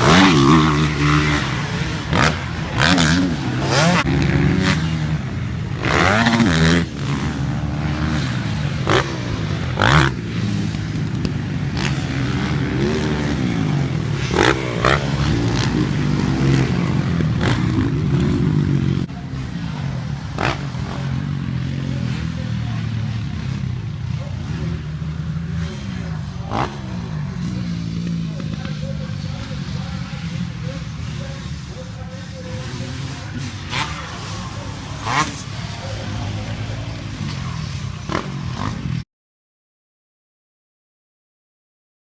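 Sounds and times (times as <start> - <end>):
dirt bike engines revving: 0.0 - 39.0.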